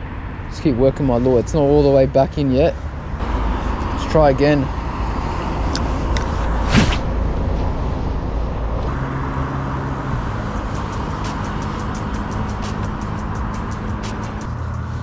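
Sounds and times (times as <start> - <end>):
road traffic rumble: 0.0 - 15.0
vehicle whoosh: 0.0 - 15.0.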